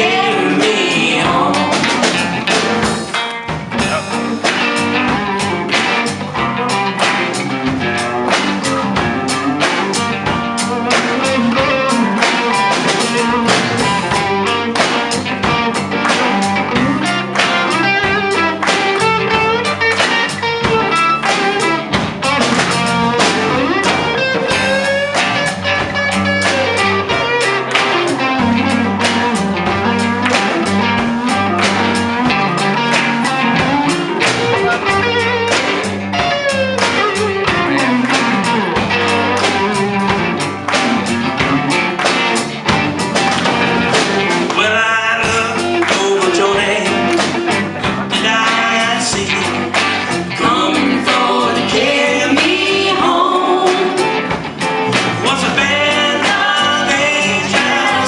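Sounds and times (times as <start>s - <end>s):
bass: 0.0s - 58.0s
drum kit: 0.0s - 58.0s
guitar playing: 0.0s - 58.0s.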